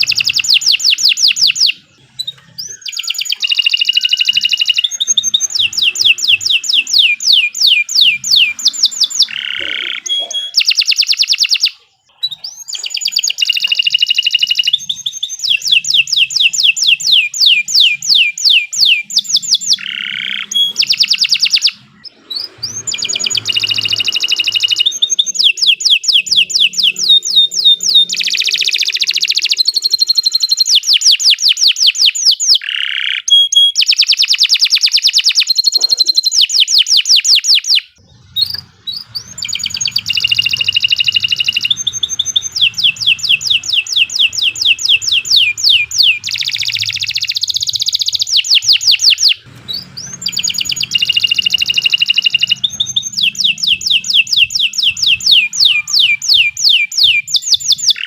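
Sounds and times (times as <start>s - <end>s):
canary singing fast trills: 0.0s - 58.0s.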